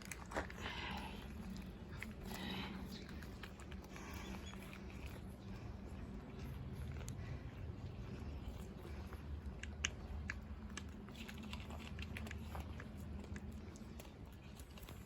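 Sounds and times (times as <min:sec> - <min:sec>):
cats crunching dry food: 0:00.0 - 0:15.0
steady low rumble: 0:00.0 - 0:15.0.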